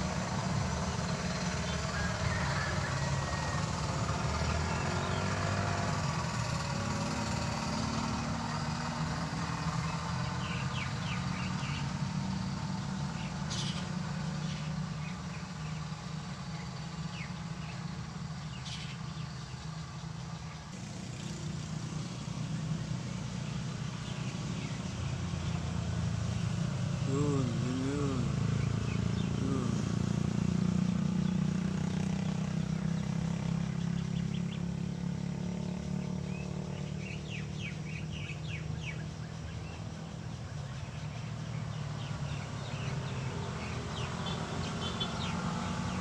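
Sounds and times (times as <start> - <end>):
small motorcycle engine passing: 0.0 - 46.0.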